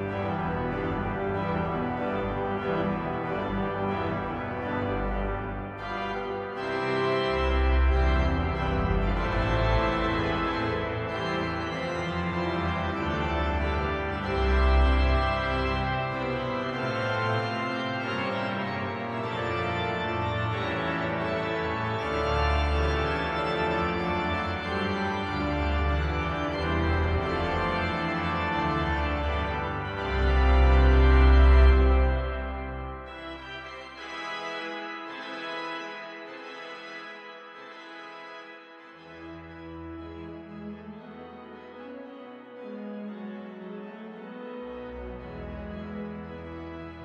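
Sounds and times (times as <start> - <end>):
pipe organ playing a march: 0.0 - 47.0.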